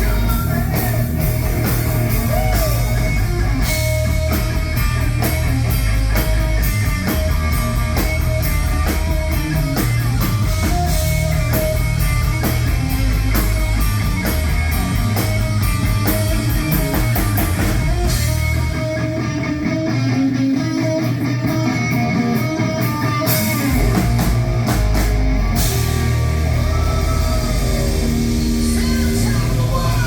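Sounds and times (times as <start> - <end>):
electric guitar: 0.0 - 30.0
rock band playing: 0.0 - 30.0.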